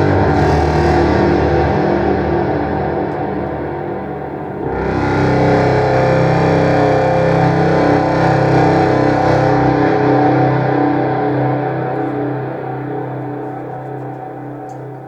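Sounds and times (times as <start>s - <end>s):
low clarinet drone with reverb: 0.0s - 15.0s.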